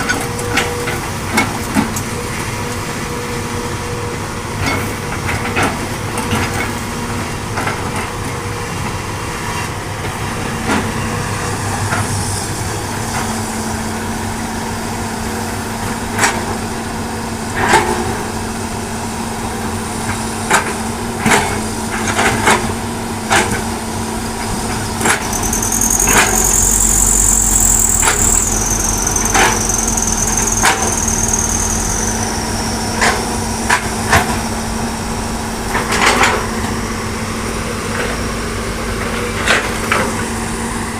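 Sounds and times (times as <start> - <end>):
excavator diesel engine: 0.0 - 40.9
high hydraulic whine: 0.0 - 40.9.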